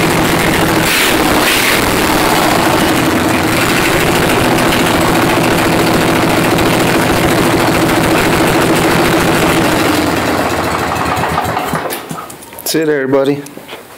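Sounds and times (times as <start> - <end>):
loud riding mower engine running: 0.0 - 12.4.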